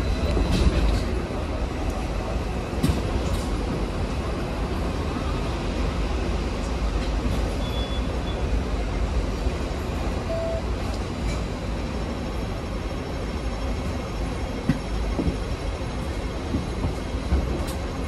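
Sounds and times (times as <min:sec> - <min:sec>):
road traffic: 0:00.0 - 0:18.0
tram rumbling along track: 0:00.0 - 0:18.0.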